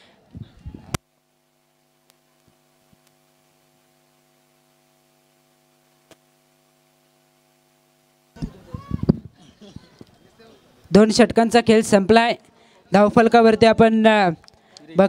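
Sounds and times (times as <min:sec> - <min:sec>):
faint mains hum: 0:00.0 - 0:15.0.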